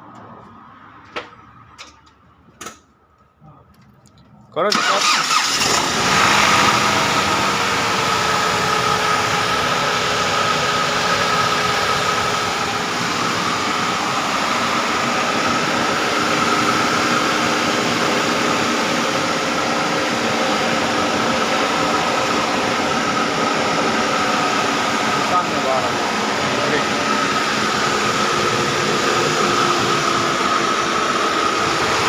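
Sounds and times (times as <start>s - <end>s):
car engine running: 4.8s - 32.0s.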